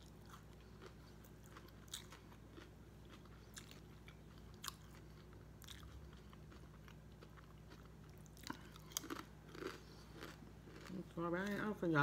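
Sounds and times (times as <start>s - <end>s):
potato chips crunching: 0.0s - 11.7s.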